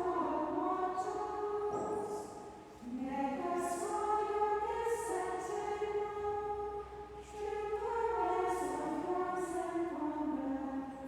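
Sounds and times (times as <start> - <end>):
women's choir chanting: 0.0 - 11.0.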